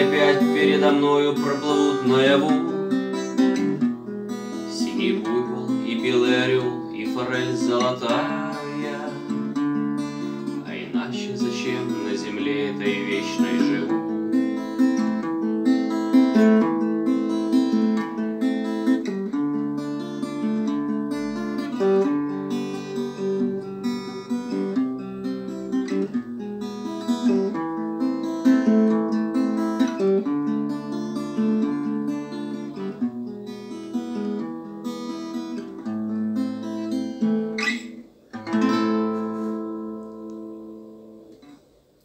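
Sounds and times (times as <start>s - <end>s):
acoustic guitar strummed chords: 0.0s - 41.8s.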